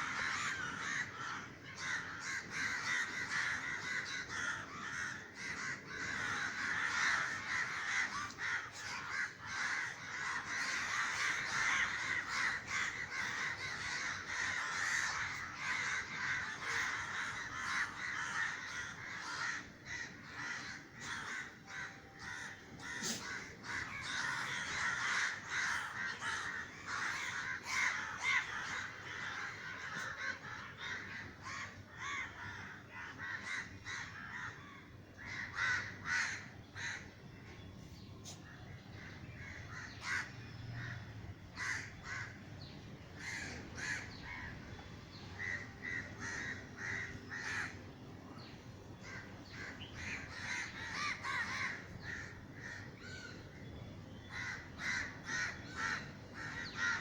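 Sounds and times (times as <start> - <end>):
crows cawing: 0.0 - 37.5, 38.2 - 57.0.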